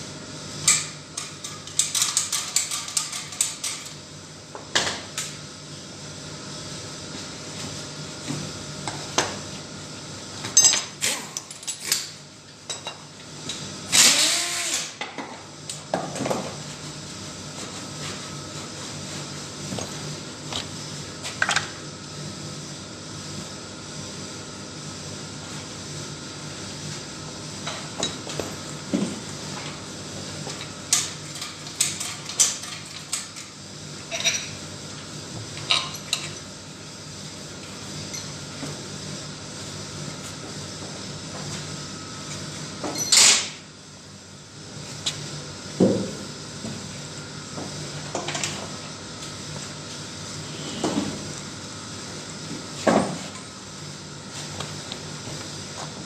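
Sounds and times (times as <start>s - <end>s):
steady shop hum: 0.0s - 56.0s.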